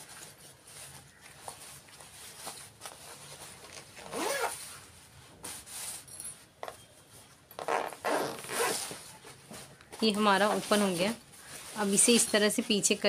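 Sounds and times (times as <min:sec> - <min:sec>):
cloth rustling and rubbing: 0:00.0 - 0:13.0.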